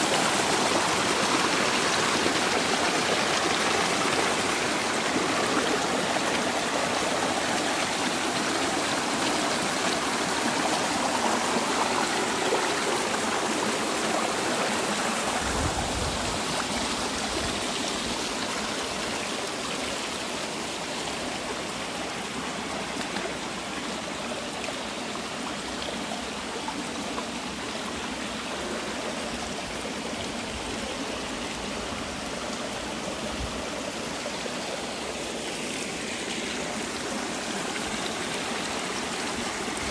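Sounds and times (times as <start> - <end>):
stream cascading over boulders: 0.0 - 39.9.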